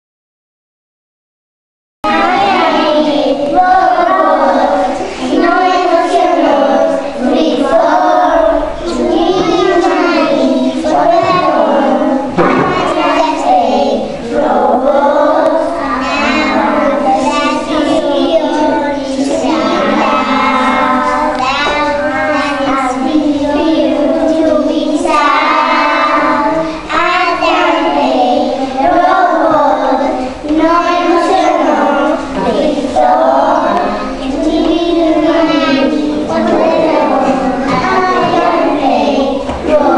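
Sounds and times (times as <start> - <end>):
young children singing: 2.0 - 39.9.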